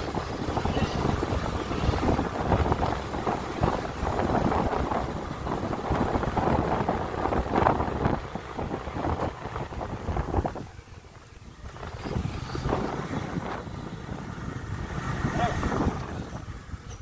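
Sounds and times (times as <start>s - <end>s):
vehicle rumble: 0.0s - 17.0s
wind buffeting microphone: 0.0s - 17.0s.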